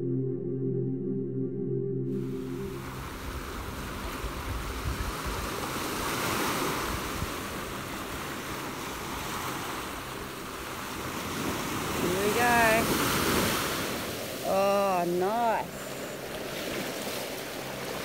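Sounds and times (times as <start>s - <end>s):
small waves washing onto sand: 2.7s - 18.0s.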